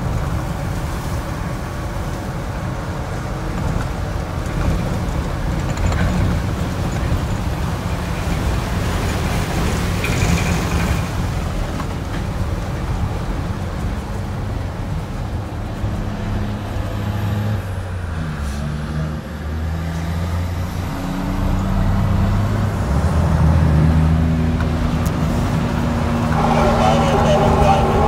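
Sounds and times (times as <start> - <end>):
tyre and cab rumble: 0.0 - 19.3, 20.9 - 28.0
diesel truck engine running: 0.0 - 28.0.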